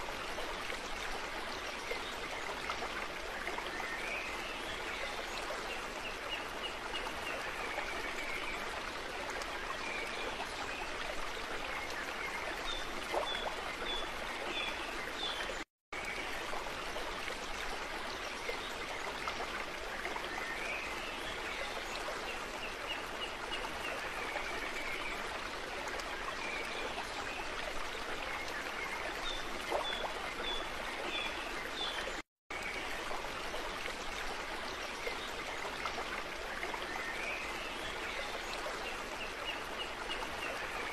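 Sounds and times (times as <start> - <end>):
flowing stream: 0.0 - 40.9.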